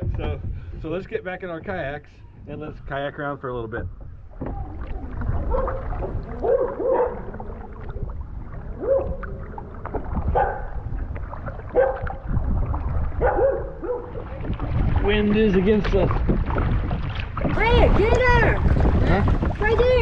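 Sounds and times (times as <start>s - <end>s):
kayak paddling: 0.0s - 20.0s
wind rumbling on microphone: 0.0s - 20.0s
paddle knocks: 3.6s - 20.0s.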